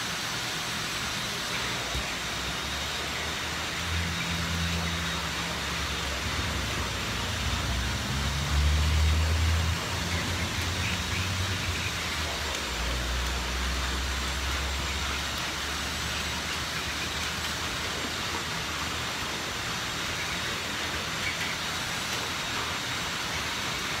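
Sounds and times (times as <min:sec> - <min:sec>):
heavy rain on flooded street: 0:03.4 - 0:24.0.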